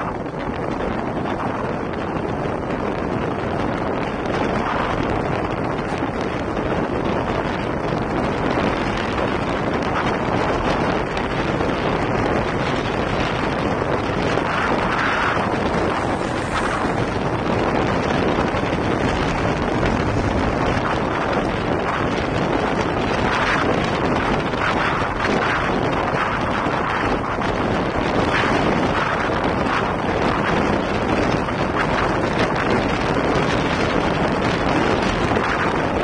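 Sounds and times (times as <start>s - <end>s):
wind rushing on microphone: 0.0s - 36.0s.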